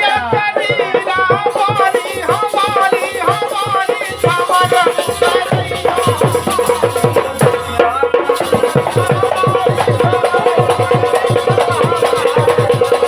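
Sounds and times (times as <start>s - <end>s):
fast drum beat: 0.0s - 13.0s.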